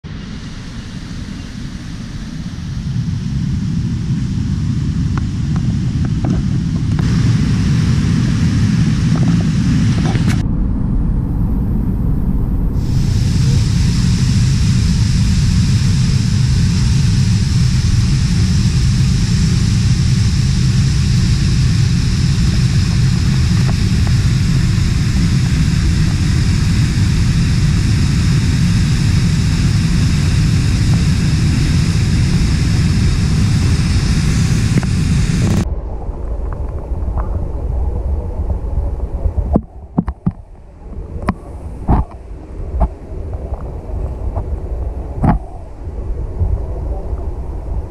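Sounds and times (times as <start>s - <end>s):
muffled underwater sound: 4.1s - 47.9s.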